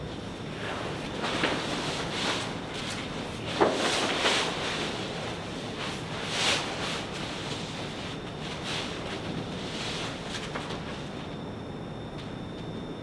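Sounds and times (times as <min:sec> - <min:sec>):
hanging sheet rustling and crinkling: 0:00.6 - 0:11.4.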